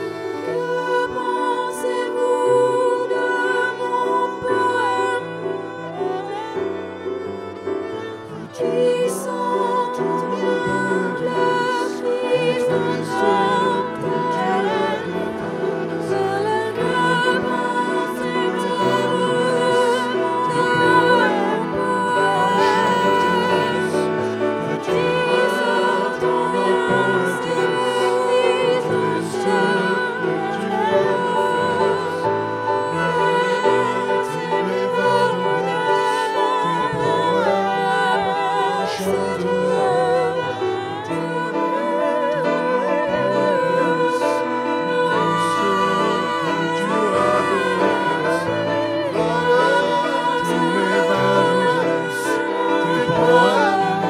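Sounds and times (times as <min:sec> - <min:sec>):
woman singing with vibrato: 0:00.0 - 0:07.2, 0:07.9 - 0:54.0
sustained instrumental accompaniment: 0:00.0 - 0:54.0.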